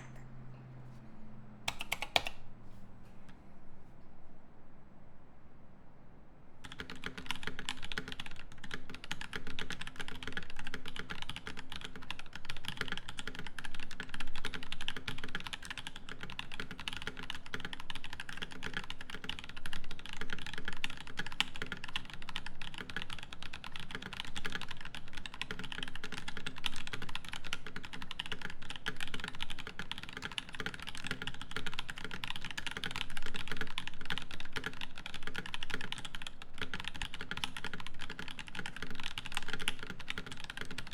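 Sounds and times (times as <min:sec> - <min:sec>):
mechanical keyboard typing: 0:01.7 - 0:02.4, 0:06.6 - 0:40.9.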